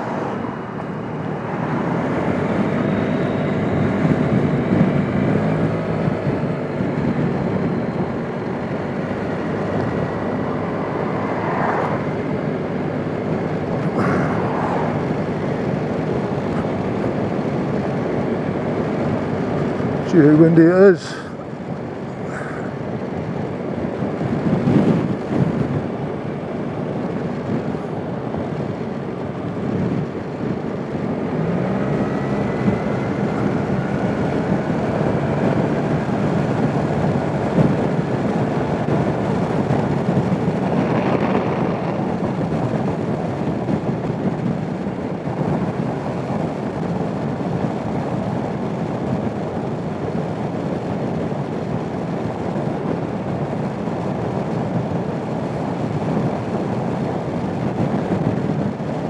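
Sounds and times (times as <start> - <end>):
wind and road noise: 0.0 - 59.0
scooter engine running: 0.6 - 11.2, 11.9 - 20.4, 21.5 - 50.5.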